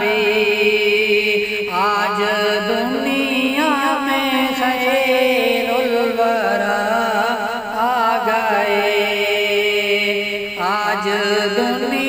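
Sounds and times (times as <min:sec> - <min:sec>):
man singing with vibrato: 0:00.0 - 0:12.0.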